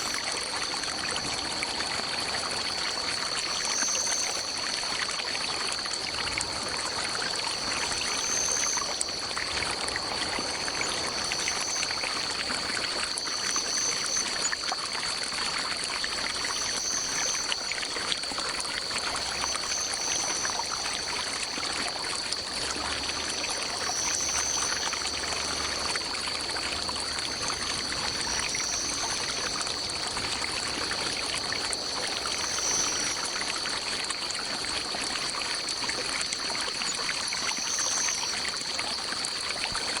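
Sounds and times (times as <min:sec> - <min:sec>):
stream trickling over rocks: 0:00.0 - 0:40.0.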